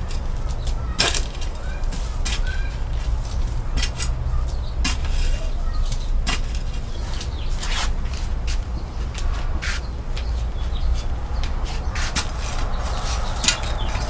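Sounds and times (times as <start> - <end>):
hand tool scraping soil: 0.0 - 14.0.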